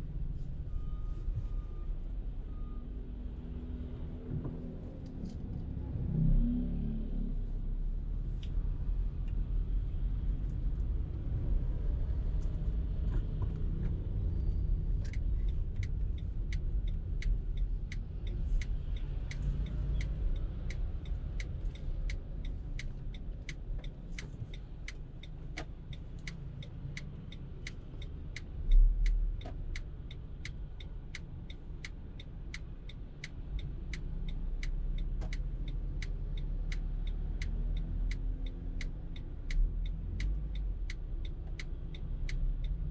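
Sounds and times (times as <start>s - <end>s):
car engine rumble: 0.0s - 42.9s
road noise: 0.0s - 42.9s
turn signal ticking: 0.1s - 5.7s, 7.4s - 42.9s.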